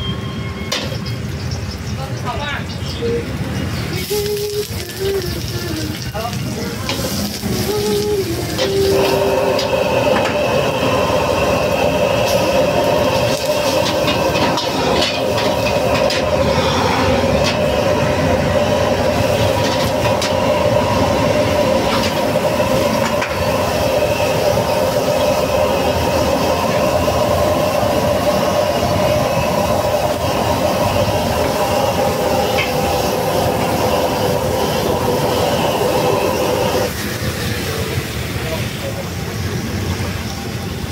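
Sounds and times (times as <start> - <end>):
gas burner rushing: 0.0 - 1.6, 3.6 - 40.9
food sizzling and bubbling: 0.8 - 40.9.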